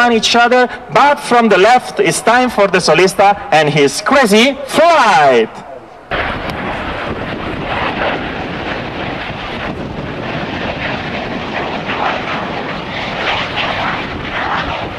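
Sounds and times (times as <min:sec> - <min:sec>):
jet passing low: 0:00.0 - 0:14.9.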